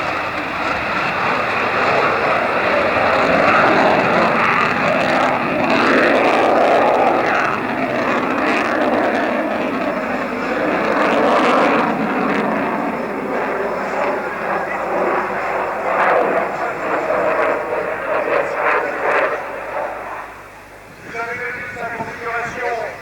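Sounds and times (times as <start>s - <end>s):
aircraft engine: 0.0s - 23.0s.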